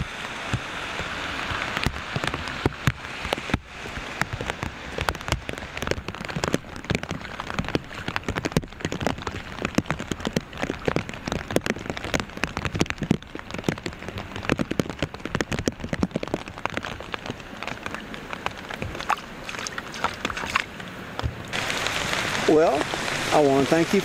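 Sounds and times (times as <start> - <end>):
steady rain hiss: 0.0 - 24.0
raindrops ticking on plastic: 0.1 - 24.0.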